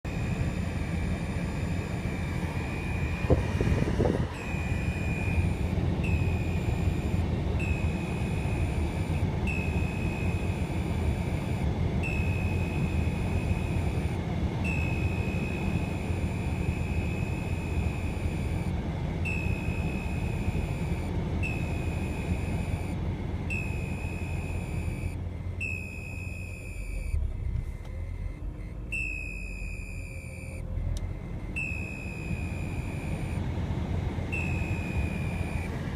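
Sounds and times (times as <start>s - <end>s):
low engine and road rumble: 0.0s - 35.9s.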